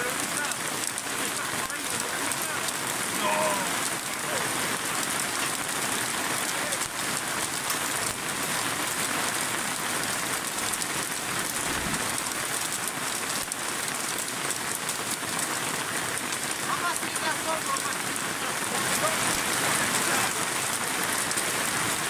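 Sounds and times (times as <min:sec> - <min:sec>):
rain and hail on awning: 0:00.0 - 0:22.0
water pouring off awning: 0:00.0 - 0:22.0.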